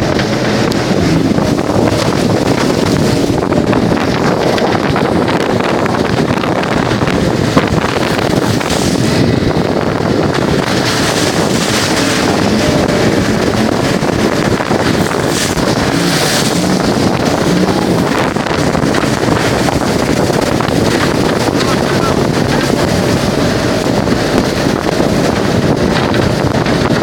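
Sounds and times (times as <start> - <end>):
boat motor running: 0.0 - 27.0
wind buffeting microphone: 0.0 - 27.0.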